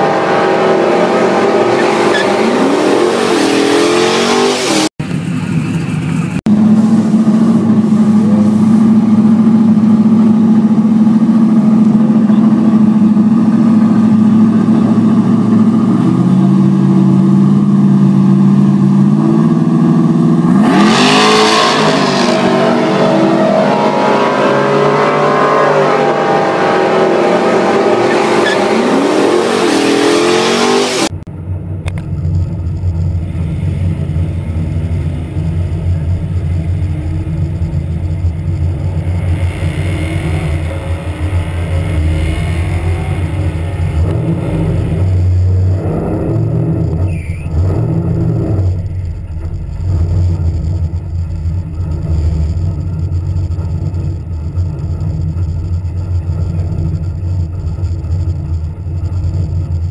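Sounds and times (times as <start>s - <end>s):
car engine accelerating: 0.0s - 59.9s
car engine rumbling at low speed: 0.0s - 59.9s.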